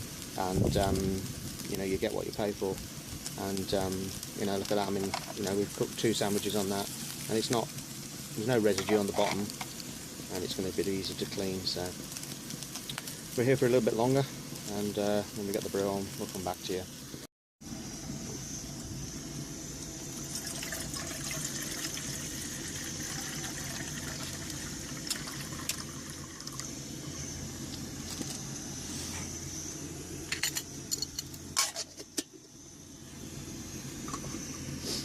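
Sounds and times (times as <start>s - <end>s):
camping stove hissing: 0.0s - 35.0s.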